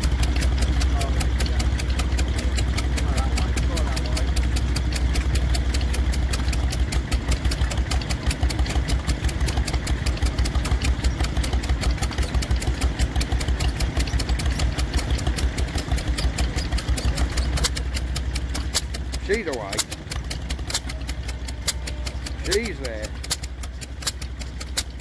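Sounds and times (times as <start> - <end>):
stationary engine running: 0.0 - 25.0.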